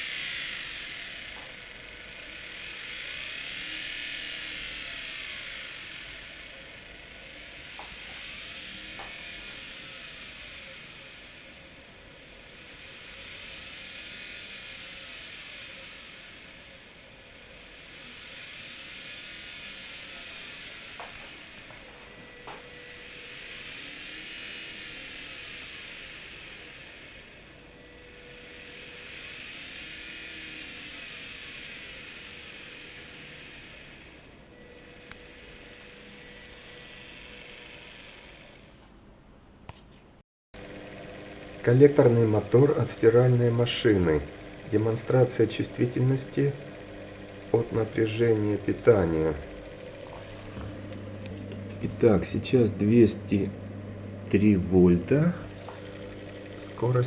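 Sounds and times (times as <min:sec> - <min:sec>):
motor whining with hiss: 0:00.0 - 0:39.1, 0:40.6 - 0:57.0.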